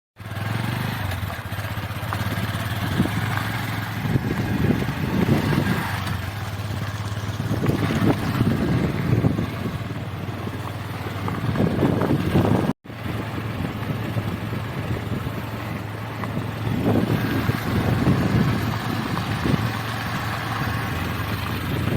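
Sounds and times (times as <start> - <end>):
engine running with low hum: 0.2 - 21.9.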